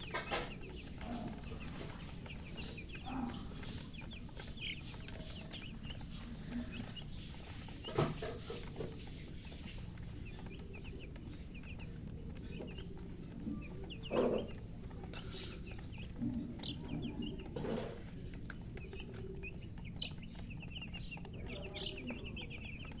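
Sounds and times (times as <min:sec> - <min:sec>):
baby chicks cheeping: 0:00.0 - 0:23.0.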